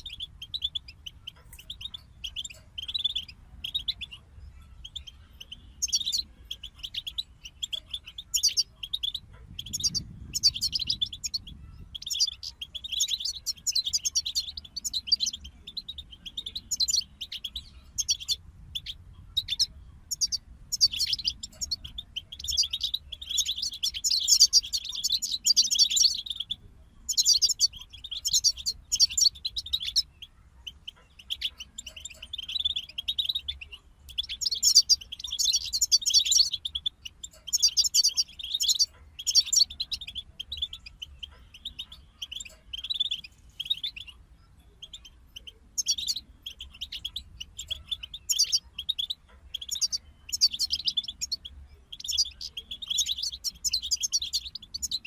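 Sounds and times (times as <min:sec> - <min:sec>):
goldfinch twittering and trilling: 0:00.0 - 0:55.0.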